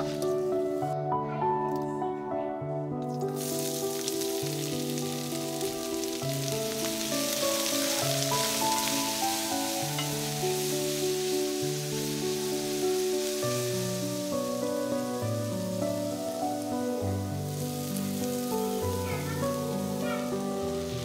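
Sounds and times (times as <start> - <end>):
background music: 0.0 - 21.0
food sizzling in a frying pan: 3.1 - 21.0.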